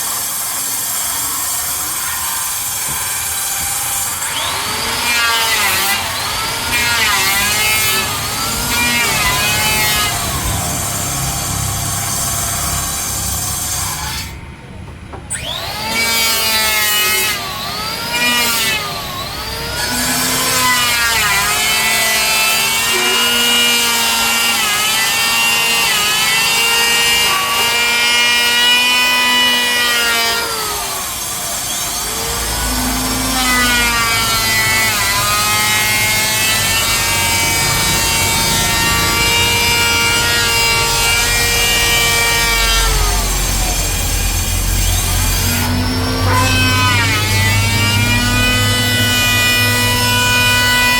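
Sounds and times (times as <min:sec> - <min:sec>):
electric saw cutting wood: 0:00.0 - 0:14.5, 0:15.2 - 0:50.9.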